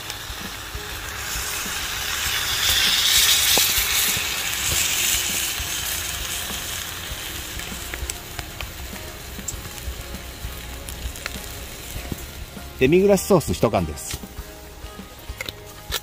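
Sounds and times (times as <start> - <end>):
wine sizzling in a hot pot: 0.0 - 16.0.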